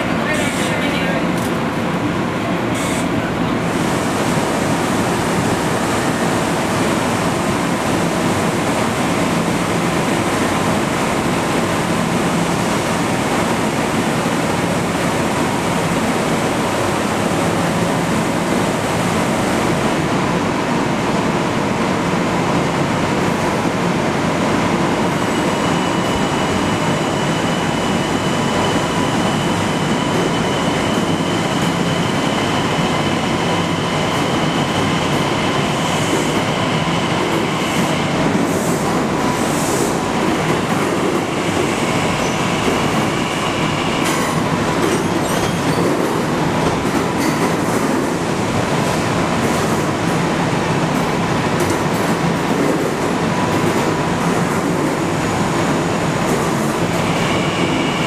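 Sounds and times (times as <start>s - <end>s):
electric train rushing hum: 0.0s - 58.0s.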